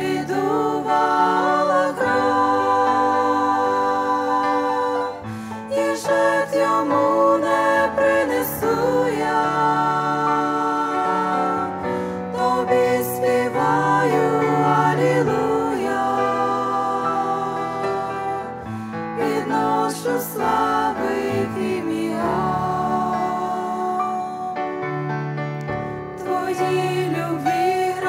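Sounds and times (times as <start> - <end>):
women singing together: 0.0 - 24.6, 26.2 - 28.0.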